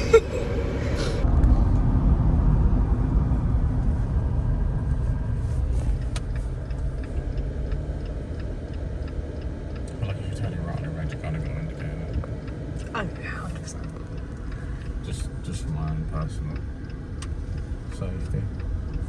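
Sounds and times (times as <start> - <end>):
car engine rumble: 0.0 - 19.0
road noise: 0.0 - 19.0.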